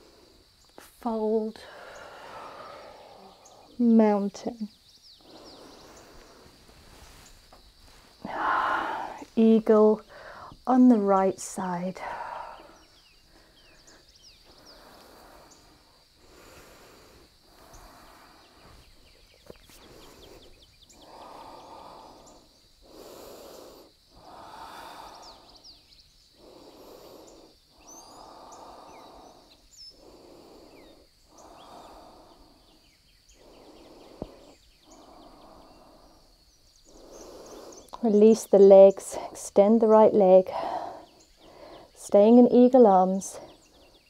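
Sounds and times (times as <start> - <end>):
person breathing slowly: 0.0 - 0.7, 1.6 - 3.8, 5.1 - 9.4, 10.0 - 10.6, 12.0 - 38.0, 40.5 - 42.0.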